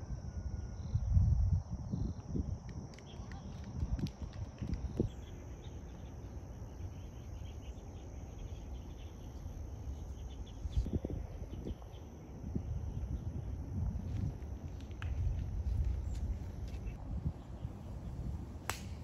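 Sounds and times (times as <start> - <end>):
wind rumble on microphone: 0.0 - 6.0, 9.4 - 19.0
insects buzzing: 0.0 - 19.0.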